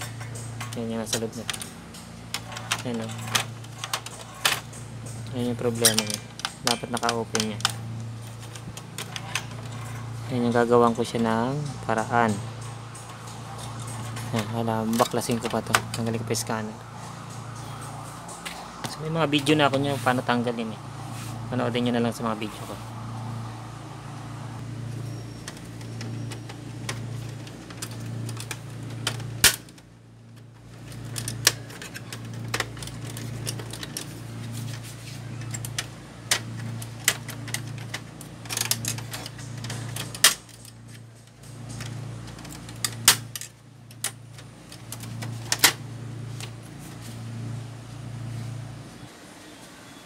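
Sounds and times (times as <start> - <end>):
low pulsing hum: 0.0 - 49.1.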